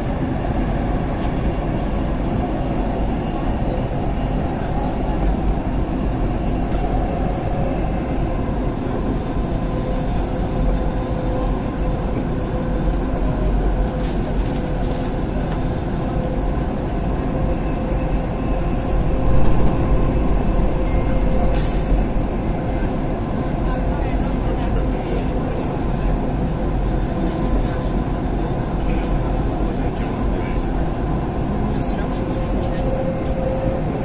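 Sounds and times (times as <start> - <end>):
train rumbling inside carriage: 0.0 - 34.0.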